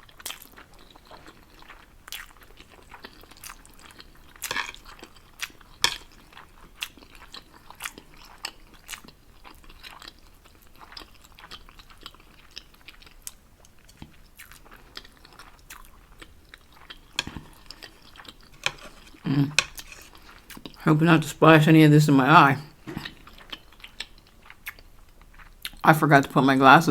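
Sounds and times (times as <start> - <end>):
person chewing noodles: 0.0 - 20.8, 22.6 - 25.8.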